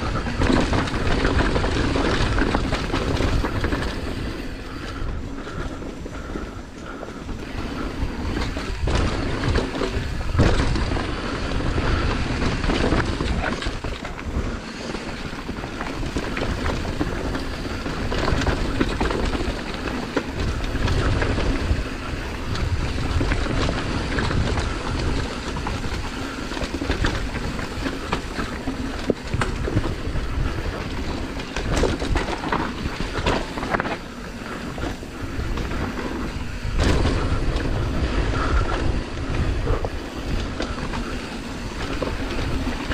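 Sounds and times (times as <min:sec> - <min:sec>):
bike rattling and knocking: 0:00.0 - 0:42.9
bike tyres on dirt: 0:00.0 - 0:42.9
wind buffeting microphone: 0:00.0 - 0:42.9.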